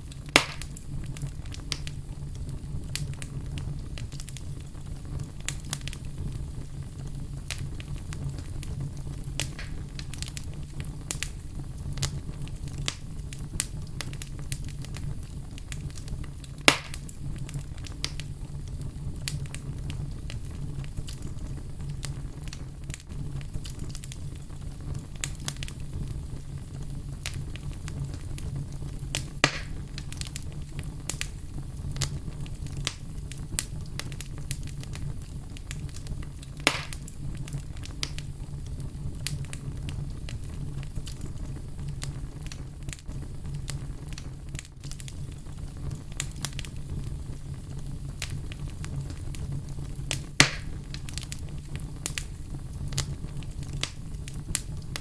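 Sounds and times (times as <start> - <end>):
fire crackling: 0.0 - 55.0
sharp cracks of fire: 0.0 - 55.0.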